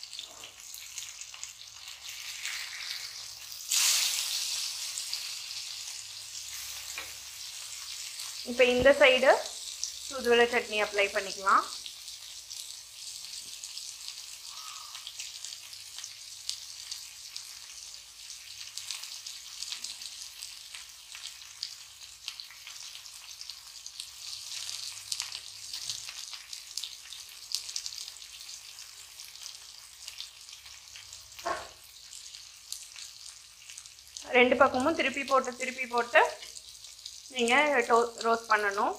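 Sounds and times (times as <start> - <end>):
fish sizzling in hot oil: 0.0 - 38.9.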